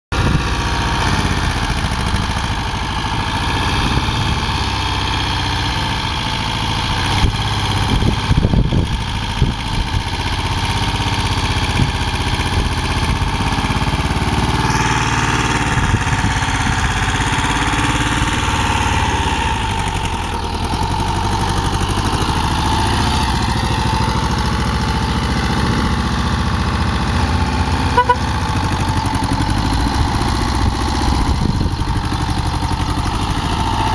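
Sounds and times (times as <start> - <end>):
van engine idling: 0.2 - 33.9.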